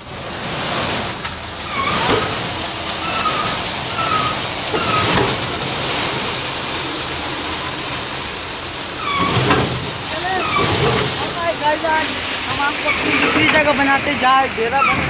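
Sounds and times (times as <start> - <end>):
crushed stone pouring: 0.0 - 15.0
tractor engine running: 0.0 - 15.0.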